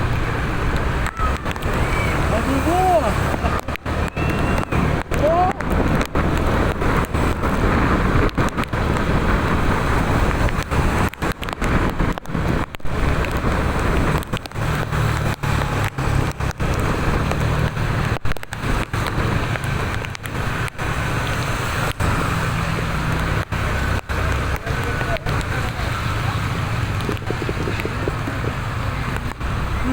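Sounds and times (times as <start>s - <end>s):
road traffic in rain: 0.0s - 29.9s.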